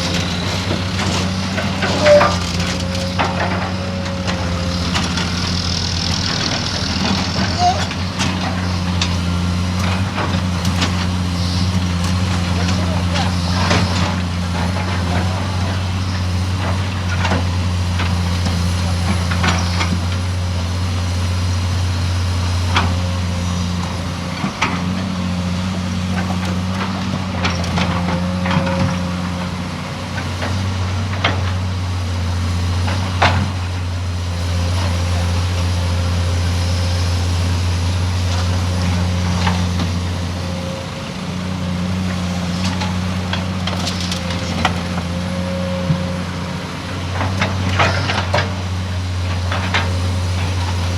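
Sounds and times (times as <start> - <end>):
heavy diesel engines droning: 0.0 - 50.9.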